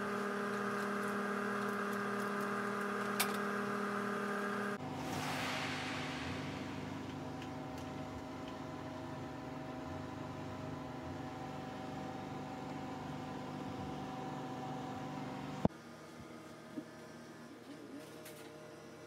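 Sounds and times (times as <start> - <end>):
oven fan hum: 0.0 - 19.0.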